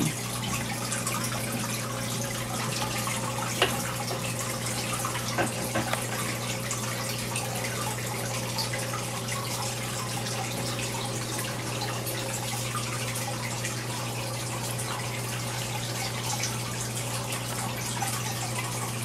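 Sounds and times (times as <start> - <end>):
filter low hum: 0.0 - 19.0
water trickling and bubbling: 0.0 - 19.0.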